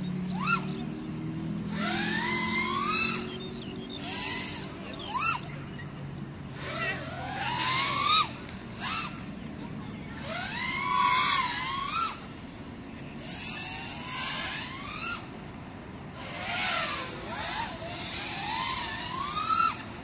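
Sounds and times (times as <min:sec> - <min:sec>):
drone motors and propellers whining: 0:00.0 - 0:20.0.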